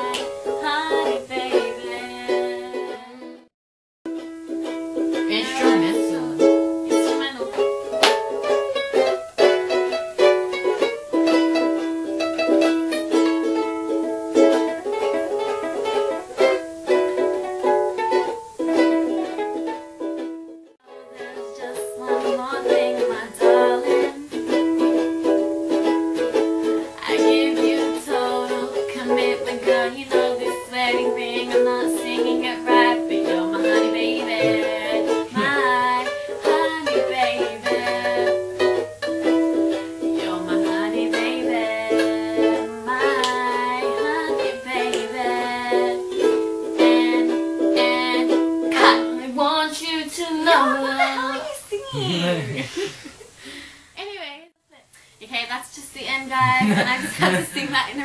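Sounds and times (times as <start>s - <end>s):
ukulele strumming chords: 0.0s - 3.4s, 4.1s - 52.9s, 56.4s - 58.0s.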